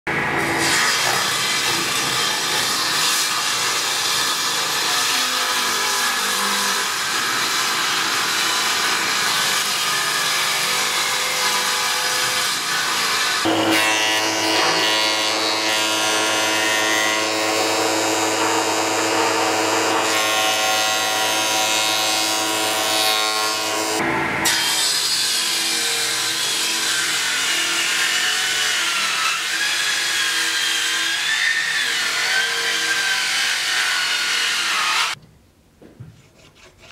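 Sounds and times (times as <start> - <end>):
table saw cutting wood: 0.1 - 35.2.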